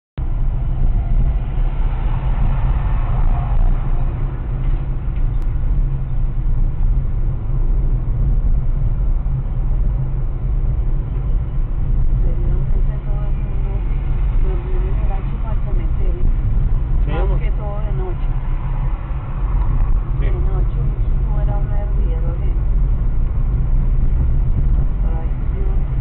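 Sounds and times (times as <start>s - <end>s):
car engine and tyres inside cabin: 0.2s - 26.0s.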